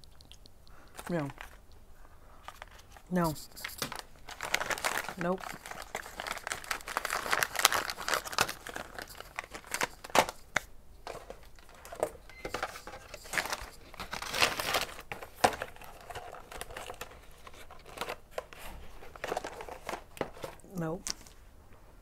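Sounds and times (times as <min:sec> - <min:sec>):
plastic wrapping crinkling: 0:00.8 - 0:01.7, 0:02.3 - 0:21.4.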